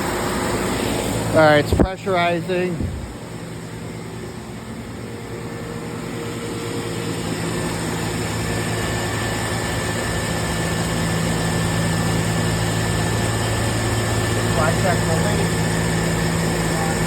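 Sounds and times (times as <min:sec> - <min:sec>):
air compressor motor humming: 0:00.0 - 0:17.0.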